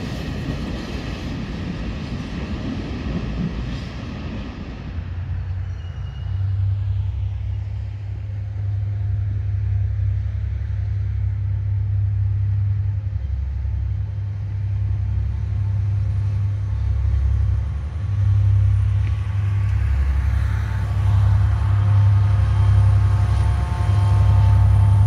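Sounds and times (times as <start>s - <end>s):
diesel locomotive engine rumbling: 0.0s - 25.0s.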